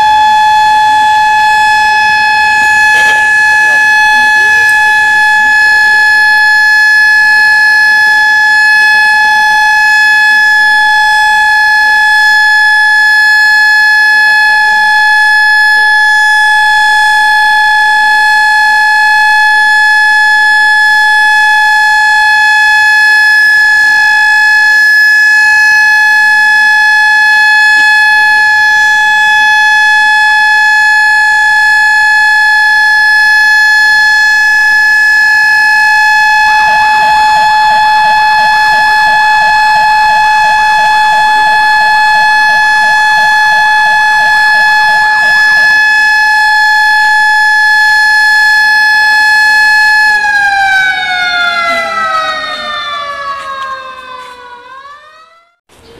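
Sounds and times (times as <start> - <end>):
warbling siren: 0.0 - 55.6
siren long steady tone: 0.0 - 55.9.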